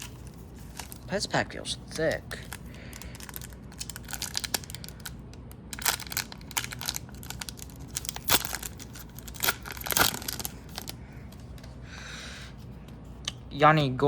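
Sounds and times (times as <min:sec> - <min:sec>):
wrapper crinkling and tearing: 0:00.0 - 0:11.6.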